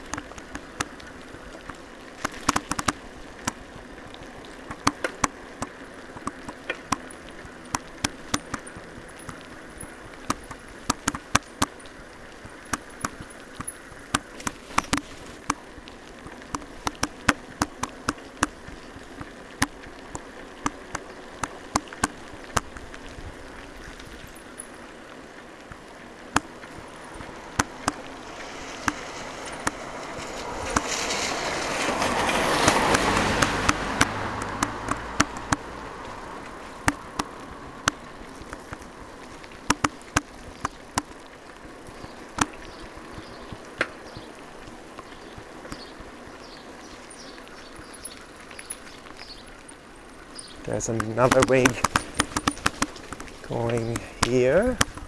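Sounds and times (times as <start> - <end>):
vehicle passing on wet road: 0.0 - 23.8, 24.7 - 55.0
raindrops tapping: 0.0 - 55.0.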